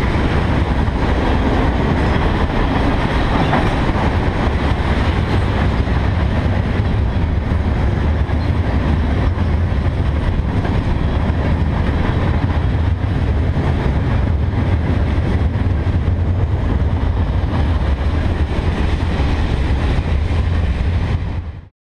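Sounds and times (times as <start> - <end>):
freight train wheels rolling: 0.0 - 21.7.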